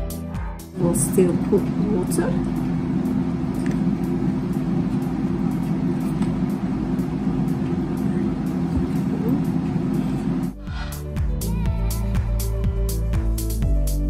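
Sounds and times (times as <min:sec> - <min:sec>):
low mechanical hum: 0:00.0 - 0:12.8.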